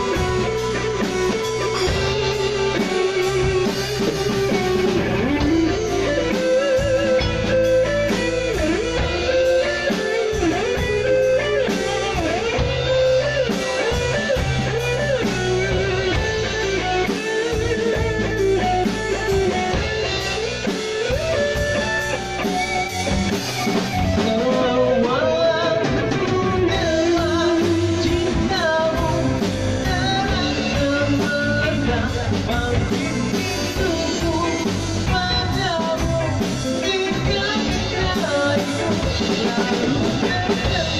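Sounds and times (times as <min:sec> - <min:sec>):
live reggae band playing: 0:00.0 - 0:40.9.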